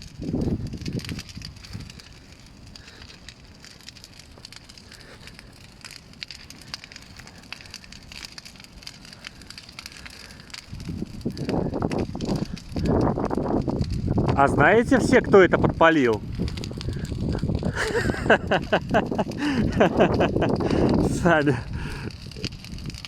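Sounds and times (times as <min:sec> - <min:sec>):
bonfire crackling: 0:00.0 - 0:23.0.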